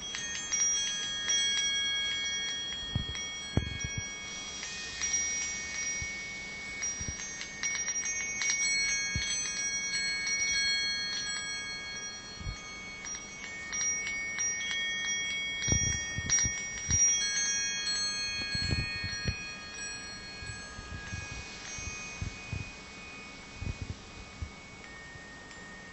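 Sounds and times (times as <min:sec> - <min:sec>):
brass wind chime ringing: 0:00.0 - 0:25.9.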